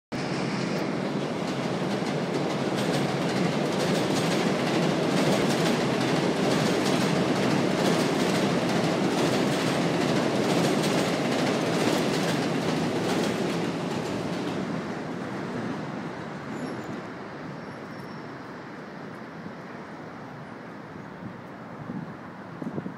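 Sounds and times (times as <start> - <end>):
subway train rumbling past: 0.1 - 22.9.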